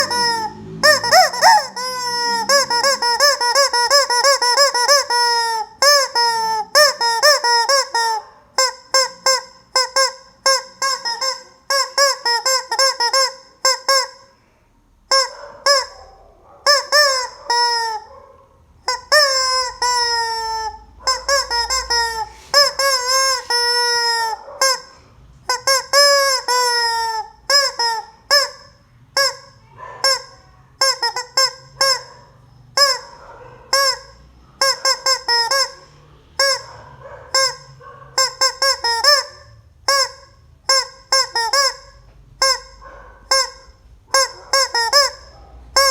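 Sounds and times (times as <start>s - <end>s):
rubber squeeze-toy squawking: 0.0s - 14.4s, 15.1s - 16.1s, 16.7s - 18.1s, 18.8s - 45.9s.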